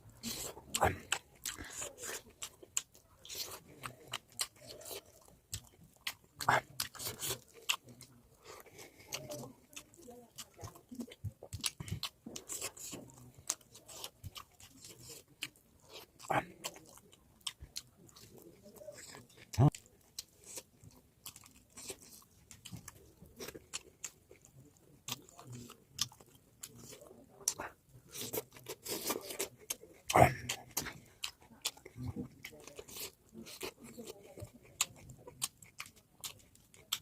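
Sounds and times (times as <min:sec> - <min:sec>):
person chewing crunchy food: 0:00.0 - 0:37.0.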